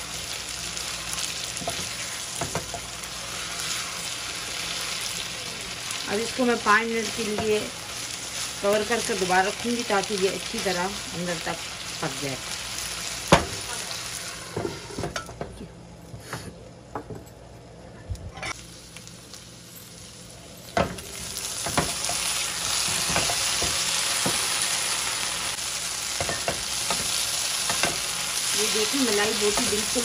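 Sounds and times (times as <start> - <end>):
chicken sizzling in frying pan: 0.0 - 14.9, 18.6 - 30.0.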